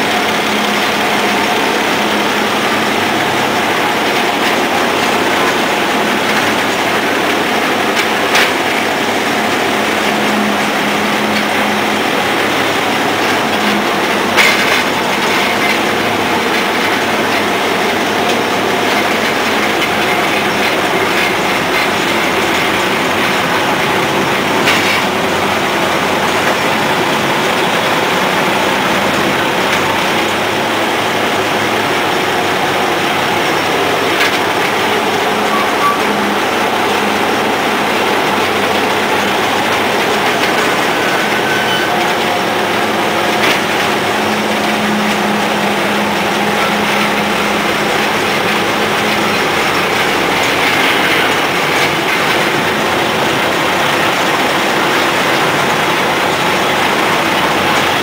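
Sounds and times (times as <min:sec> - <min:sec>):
diesel engine and machinery running: 0:00.0 - 0:58.0.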